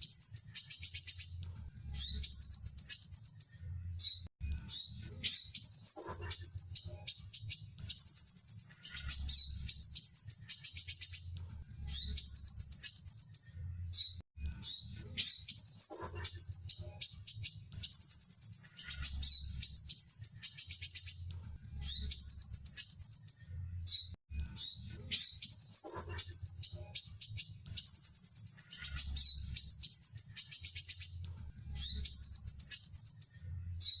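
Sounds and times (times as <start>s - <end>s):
sunbird trilling song: 0.0s - 34.0s.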